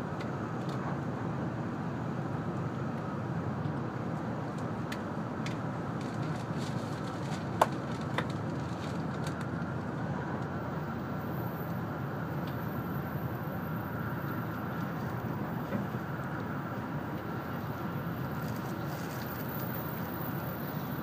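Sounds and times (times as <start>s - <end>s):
train cabin running noise: 0.0s - 21.0s.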